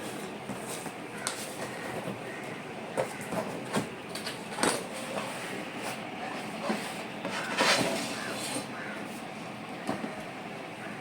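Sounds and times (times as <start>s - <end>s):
packaging rustling and scraping: 0.0s - 9.3s.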